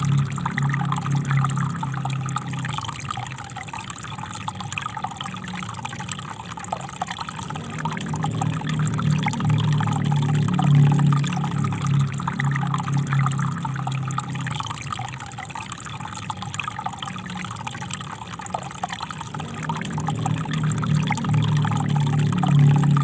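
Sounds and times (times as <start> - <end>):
deep water rumble: 0.0 - 23.0.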